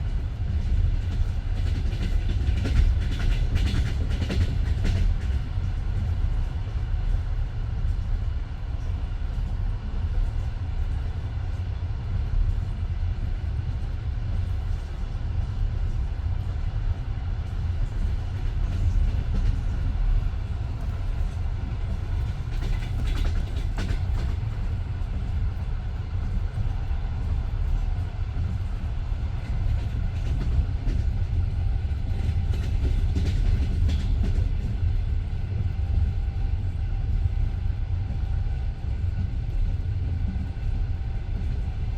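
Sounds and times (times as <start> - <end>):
train carriage rumbling: 0.0 - 41.9.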